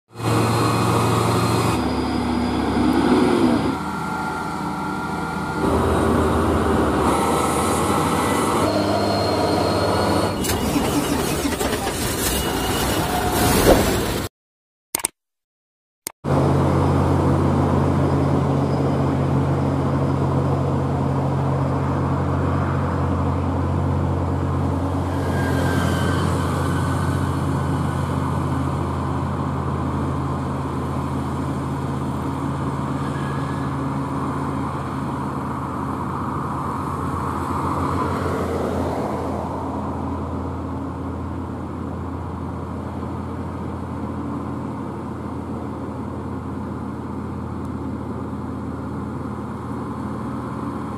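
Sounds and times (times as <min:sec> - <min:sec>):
truck engine labouring: 0:00.1 - 0:14.3, 0:16.3 - 0:50.9.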